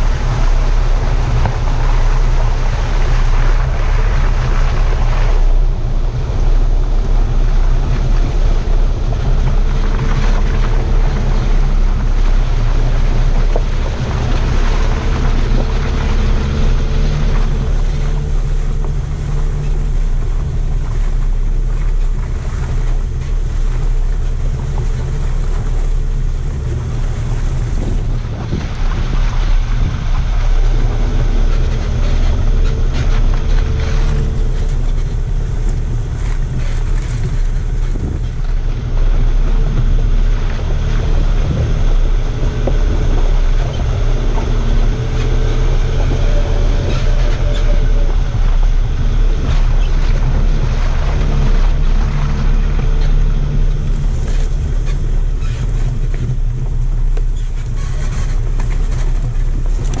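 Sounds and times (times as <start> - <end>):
vehicle engine droning: 0.0 - 60.0
wheels and body rattling: 0.0 - 60.0.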